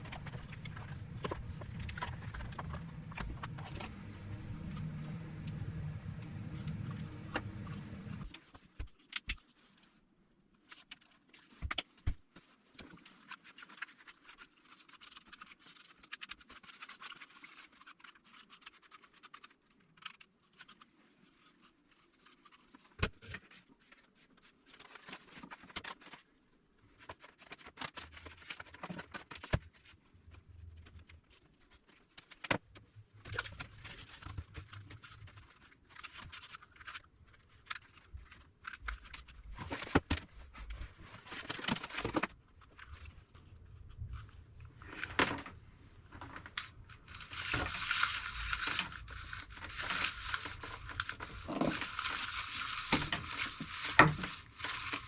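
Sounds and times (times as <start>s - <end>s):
crinkling rustle: 0.0s - 55.0s.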